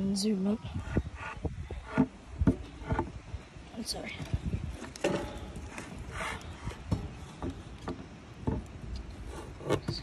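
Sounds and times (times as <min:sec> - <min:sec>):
knocks and scraping on wood: 0:00.8 - 0:03.2, 0:04.1 - 0:10.0.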